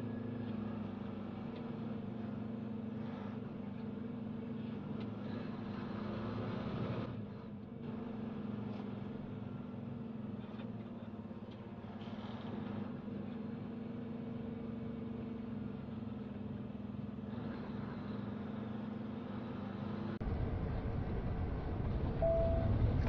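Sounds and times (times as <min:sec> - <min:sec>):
road noise: 0:00.0 - 0:23.0
truck engine droning: 0:00.0 - 0:23.0.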